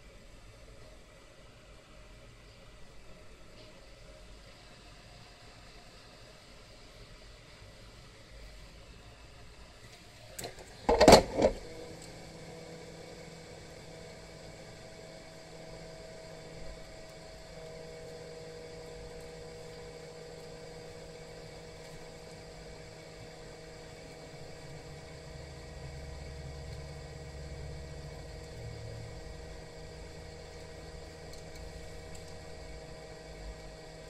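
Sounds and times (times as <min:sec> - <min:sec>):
hot-air blower whirring: 0:00.0 - 0:34.0.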